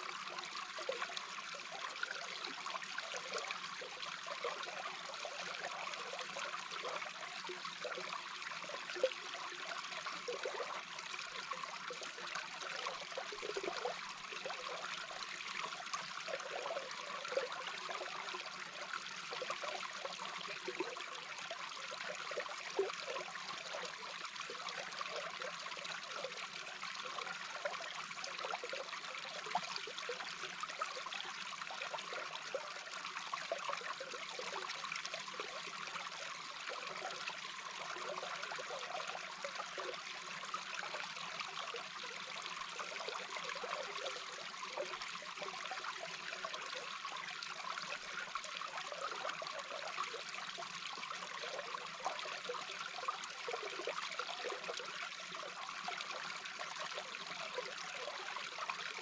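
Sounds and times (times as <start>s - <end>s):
underwater flowing water: 0.0s - 59.0s.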